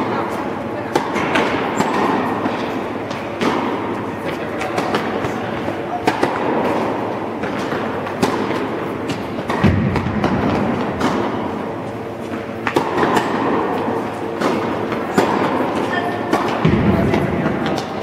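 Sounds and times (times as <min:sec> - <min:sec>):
rumbling background din: 0:00.0 - 0:18.0
tennis balls struck by rackets: 0:00.0 - 0:18.0.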